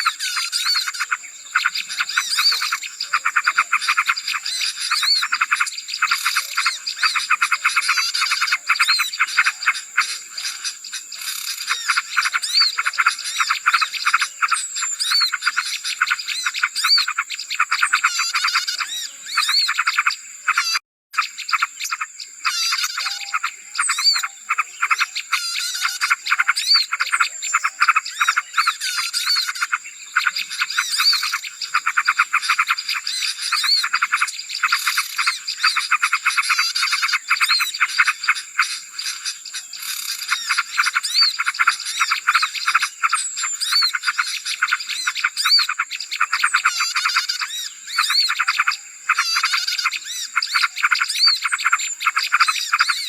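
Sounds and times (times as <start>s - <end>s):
small birds chirping and twittering: 0.0s - 53.0s.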